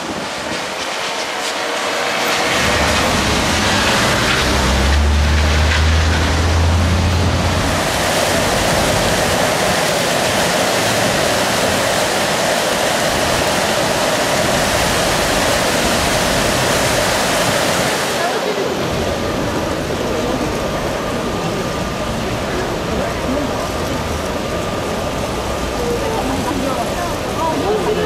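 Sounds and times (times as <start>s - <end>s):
vehicle engine humming: 0.0s - 17.4s, 18.0s - 28.0s
fountain splashing: 0.0s - 28.0s
street noise: 0.0s - 28.0s.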